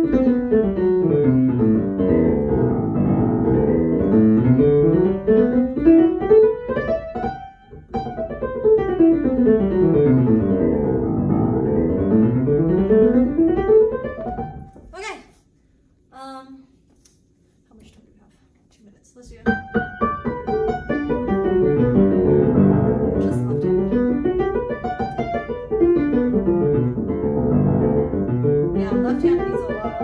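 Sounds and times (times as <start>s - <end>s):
digital piano playing scales: 0.0s - 14.7s, 19.4s - 30.0s.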